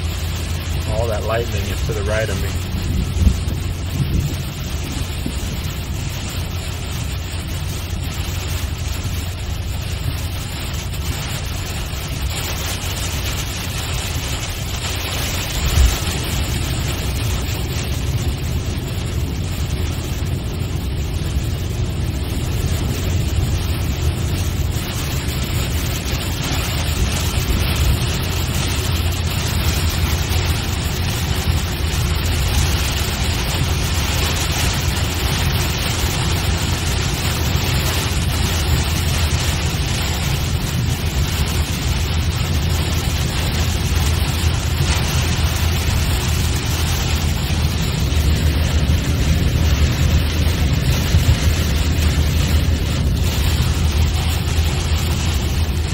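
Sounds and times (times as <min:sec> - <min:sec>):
car road noise with tyre hiss: 0:00.0 - 0:55.9.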